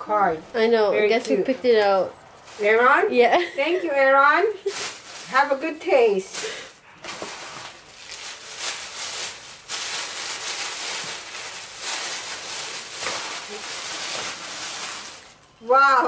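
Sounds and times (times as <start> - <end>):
tissue paper rustling: 2.4 - 15.6.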